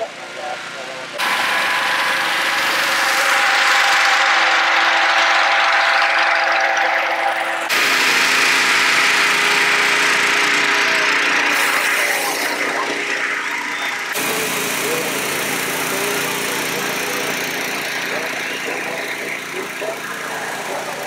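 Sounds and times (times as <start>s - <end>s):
engine hum: 0.0s - 21.0s
inflator fans whooshing roar: 0.6s - 21.0s.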